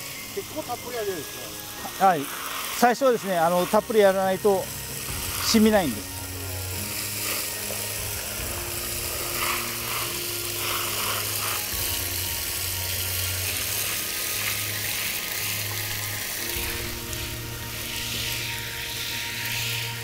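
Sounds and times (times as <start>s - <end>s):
water spraying from hose nozzle: 0.0s - 20.0s.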